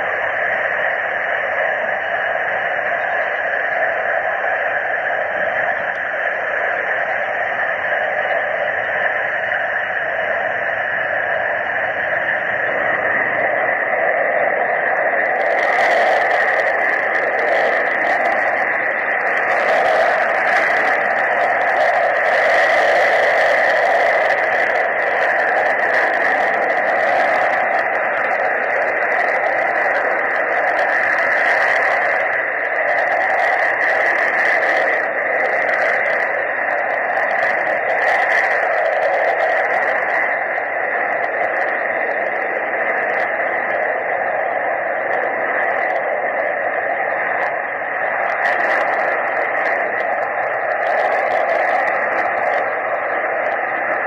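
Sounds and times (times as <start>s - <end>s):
distant jet engines rushing: 0.0s - 54.0s.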